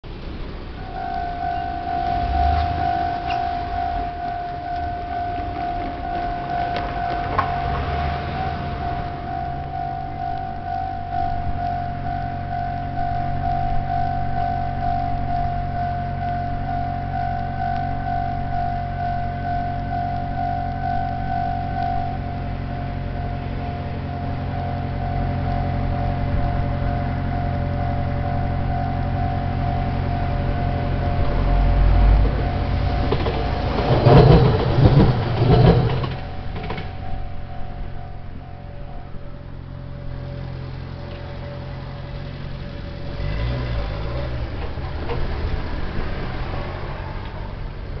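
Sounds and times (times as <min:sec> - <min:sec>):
approaching train rumble: 0:00.0 - 0:48.0
engine and tyre noise: 0:00.0 - 0:48.0
vehicle engines idling: 0:00.0 - 0:48.0
railroad crossing warning bell: 0:00.1 - 0:48.0.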